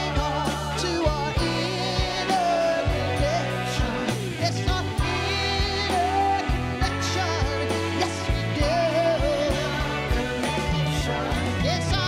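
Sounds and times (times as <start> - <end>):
bass line: 0.0 - 12.0
electric guitar: 0.0 - 12.0.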